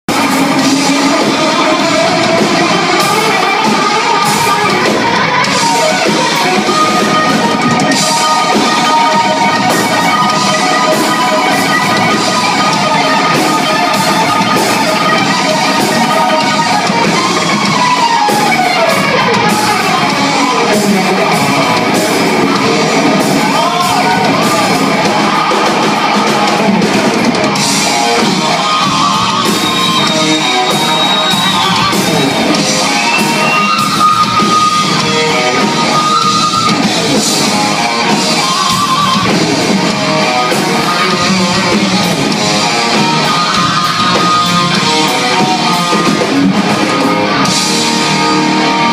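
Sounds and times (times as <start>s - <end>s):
bass guitar: 0.0s - 48.9s
distorted electric guitar: 0.0s - 48.9s
drum kit: 0.1s - 48.9s.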